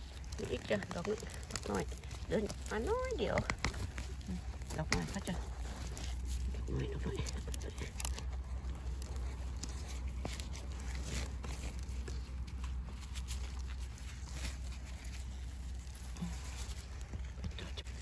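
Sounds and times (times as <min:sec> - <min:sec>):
needle litter crackling and rustling: 0:00.0 - 0:18.0
steady low rumble: 0:00.0 - 0:18.0.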